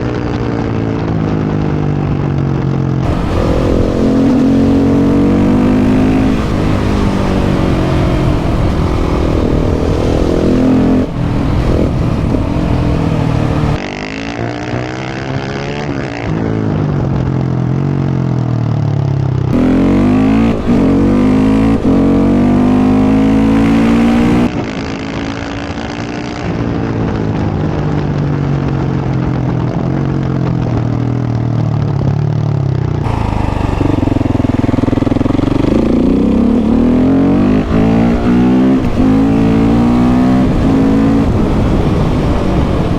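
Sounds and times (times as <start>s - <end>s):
motorcycle engine revving: 0.0s - 28.8s, 29.6s - 42.9s.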